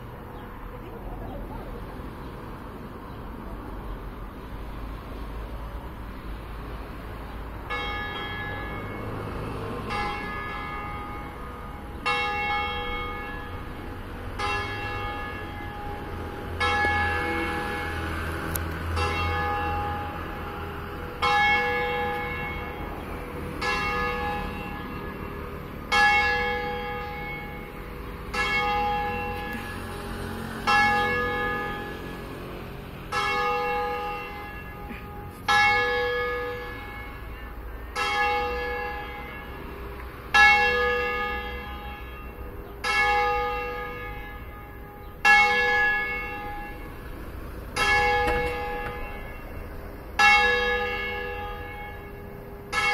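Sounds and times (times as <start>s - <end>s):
church bell swinging and ringing: 7.5s - 52.9s.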